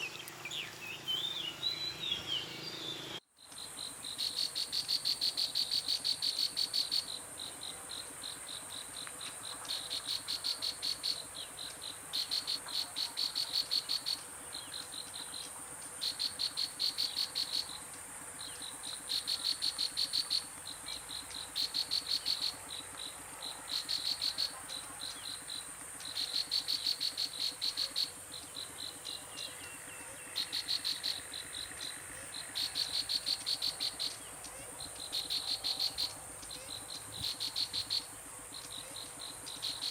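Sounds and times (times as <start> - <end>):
insect chirping trills: 0.0 - 39.9
high-pitched insect drone: 3.8 - 39.9.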